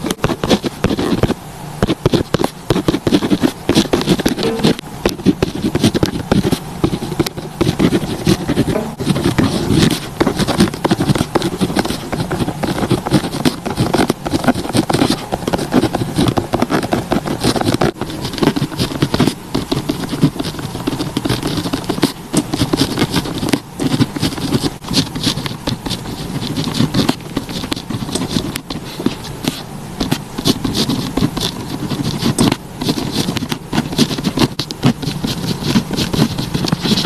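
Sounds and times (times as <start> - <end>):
pen scratching on paper: 0.0 - 37.0.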